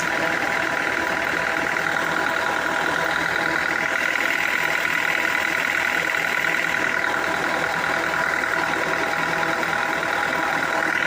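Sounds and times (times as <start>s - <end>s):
sawmill machinery humming and whining: 0.0s - 11.0s.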